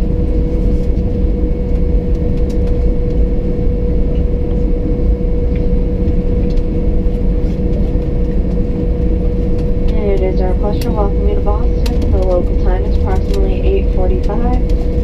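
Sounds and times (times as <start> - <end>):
aircraft cabin low rumble: 0.0 - 15.0
constant humming tone: 0.0 - 15.0.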